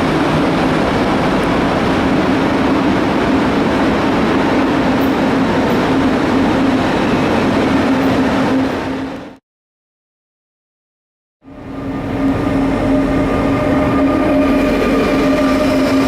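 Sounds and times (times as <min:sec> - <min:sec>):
train hum: 0:00.0 - 0:09.4, 0:11.4 - 0:16.0
train wheels rushing on rail: 0:00.0 - 0:09.4, 0:11.5 - 0:16.0.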